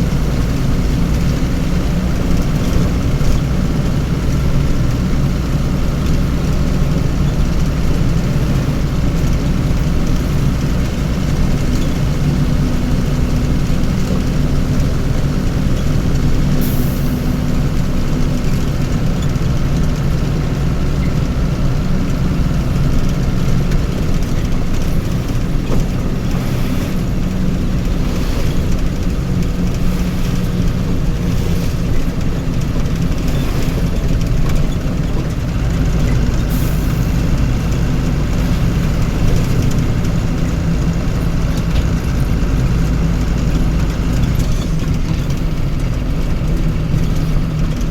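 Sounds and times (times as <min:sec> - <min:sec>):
heavy vehicle engine running: 0:00.0 - 0:47.9.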